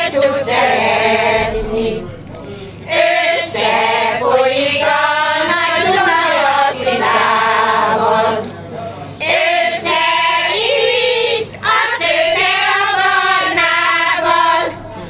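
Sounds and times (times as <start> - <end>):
women's choir singing: 0.0 - 2.1, 2.8 - 8.6, 9.2 - 15.0.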